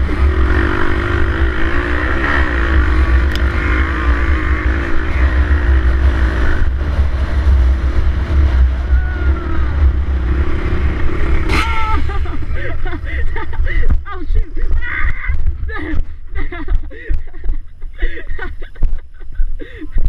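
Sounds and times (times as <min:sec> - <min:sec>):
dirt bike engine running: 0:00.0 - 0:19.4
heavy low rumble: 0:00.0 - 0:20.0.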